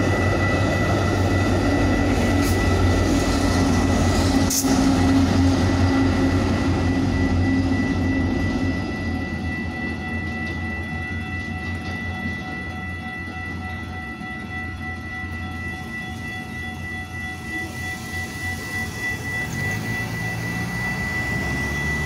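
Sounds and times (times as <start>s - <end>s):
crossing warning bell ringing: 0.0s - 22.0s
train rumble: 0.0s - 22.0s.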